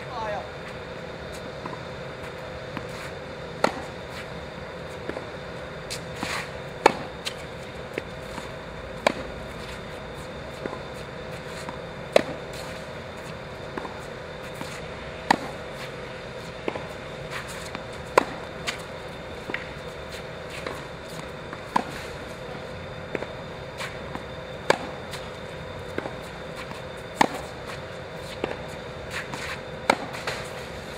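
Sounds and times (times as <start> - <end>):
steady background hum: 0.0 - 30.9
tennis ball bouncing: 1.6 - 30.6
racket hitting tennis ball: 1.6 - 30.9.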